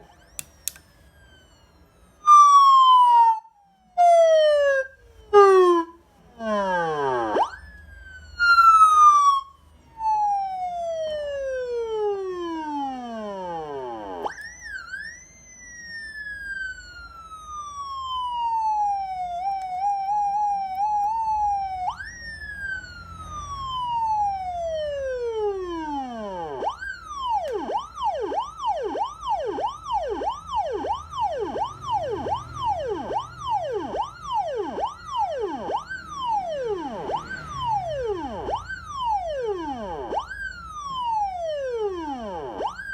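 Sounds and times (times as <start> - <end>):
electronic police siren: 0.0 - 42.9.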